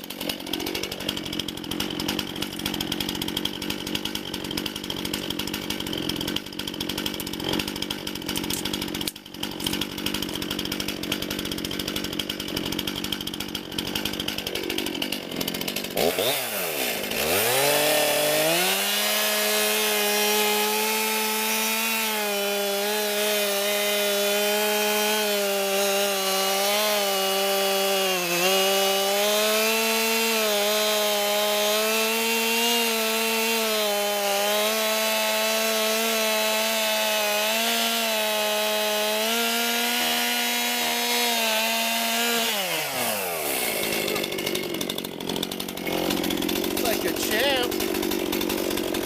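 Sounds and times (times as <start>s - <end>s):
chainsaw cutting tree trunk: 0.0s - 49.0s.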